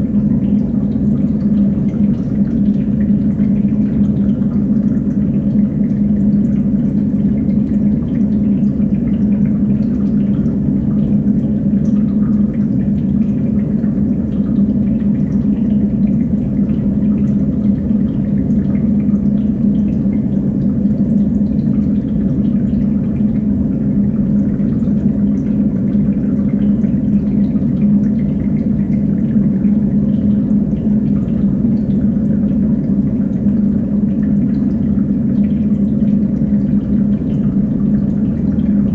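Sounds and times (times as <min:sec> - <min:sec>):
pump humming: 0:00.0 - 0:38.9
running and dripping water: 0:00.0 - 0:38.9.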